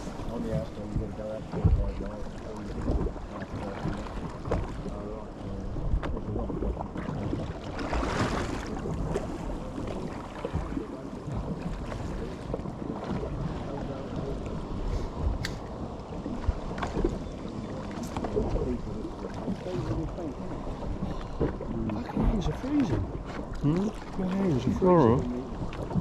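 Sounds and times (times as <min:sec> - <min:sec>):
water rush: 0:00.0 - 0:26.0
water slapping against boat hull: 0:00.0 - 0:26.0
wind buffeting microphone: 0:00.0 - 0:26.0.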